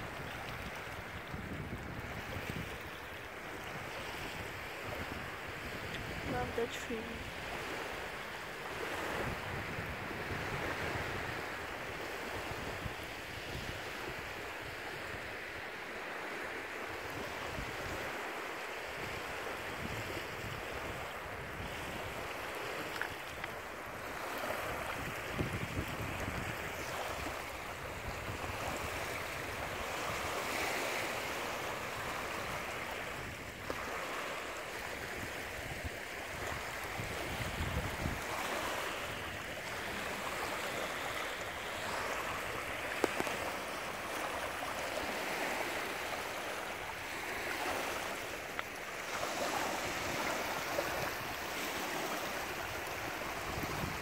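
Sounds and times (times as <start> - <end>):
wind buffeting microphone: 0.0 - 8.0, 8.7 - 15.4, 18.9 - 22.9, 23.8 - 46.4, 49.1 - 54.0
small waves on lake shore: 0.0 - 54.0.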